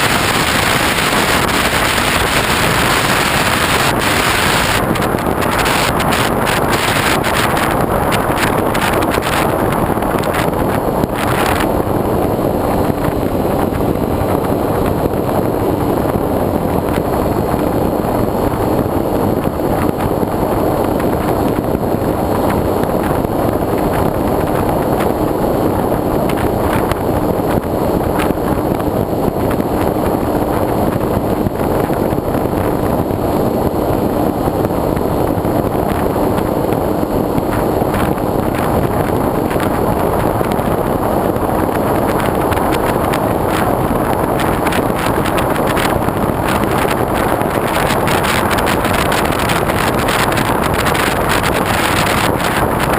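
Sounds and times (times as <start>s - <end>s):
wind rushing on microphone: 0.0s - 52.9s.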